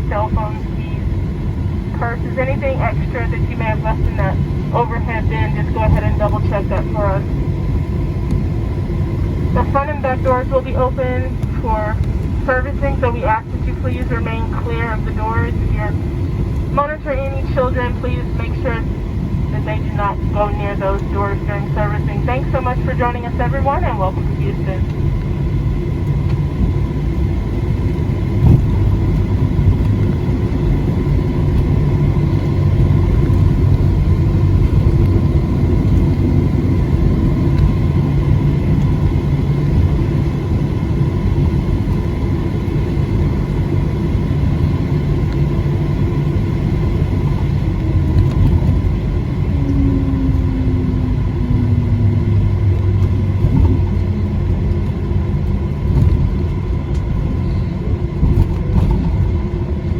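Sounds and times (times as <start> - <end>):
jet engines idling rumble: 0.0 - 59.9.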